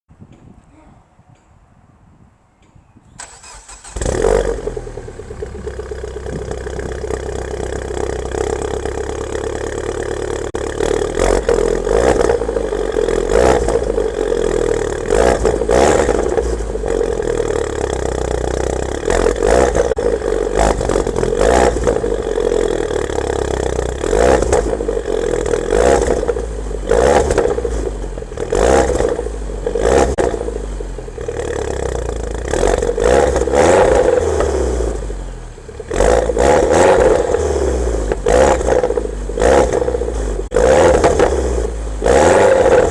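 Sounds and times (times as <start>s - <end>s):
car engine starting: 3.2s - 42.9s.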